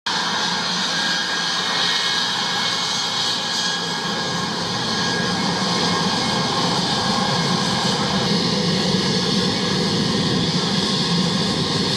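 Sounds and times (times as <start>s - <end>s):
high-pitched engine whine: 0.1s - 11.9s
jet engines roaring: 0.1s - 11.9s.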